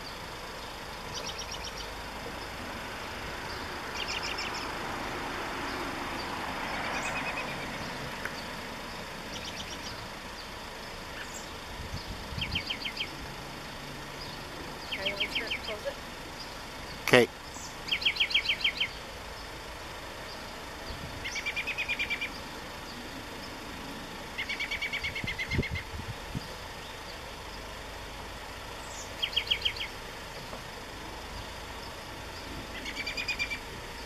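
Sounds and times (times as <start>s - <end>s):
songbird trilling: 0.0s - 2.6s, 3.4s - 4.8s, 5.6s - 13.3s, 14.1s - 23.7s, 24.3s - 27.7s, 28.7s - 30.1s, 31.3s - 34.0s.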